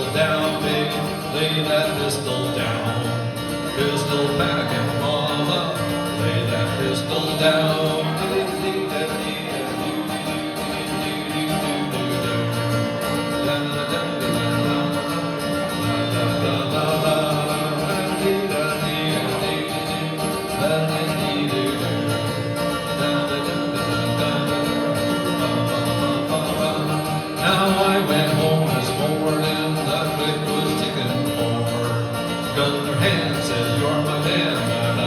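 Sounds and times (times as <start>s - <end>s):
upbeat country guitar music: 0.0s - 35.0s.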